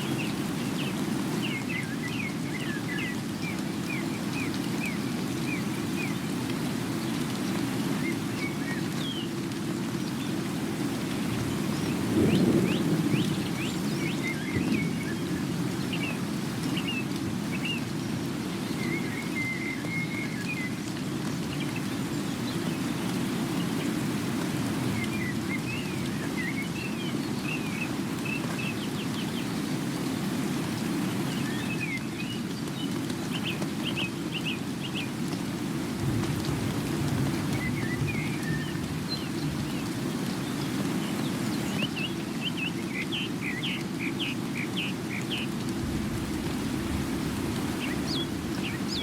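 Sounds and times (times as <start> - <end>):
small birds chirping: 0.0 - 30.3, 30.9 - 35.5, 36.8 - 49.0
steady rain falling: 0.0 - 49.0.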